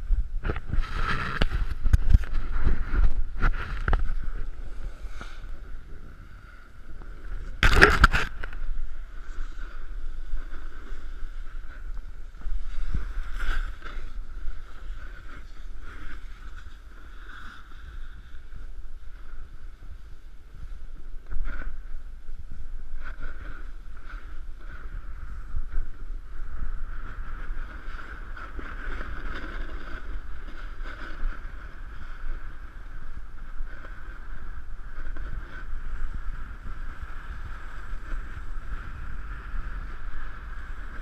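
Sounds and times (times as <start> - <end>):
snowboard scraping over snow: 0.0 - 41.0
wind on microphone: 0.0 - 41.0.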